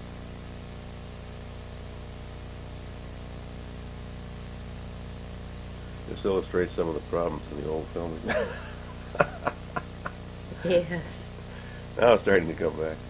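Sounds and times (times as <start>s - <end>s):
low electrical hum: 0.0s - 13.0s
steady hiss: 0.0s - 13.0s.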